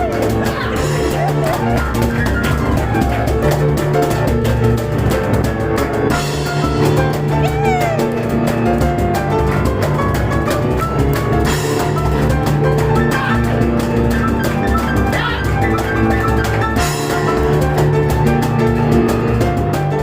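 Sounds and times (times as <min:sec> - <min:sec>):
cajon drum strikes: 0:00.0 - 0:20.0
piano chords and runs: 0:00.0 - 0:20.0.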